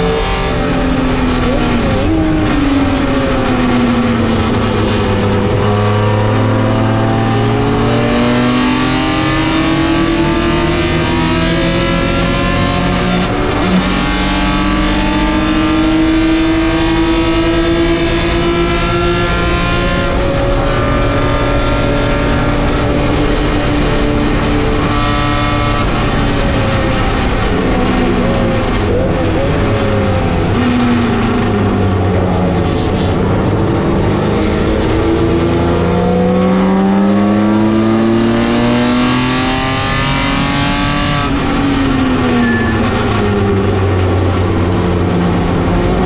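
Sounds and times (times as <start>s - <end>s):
race car engine: 0.0s - 46.0s
road and wind noise: 0.0s - 46.0s.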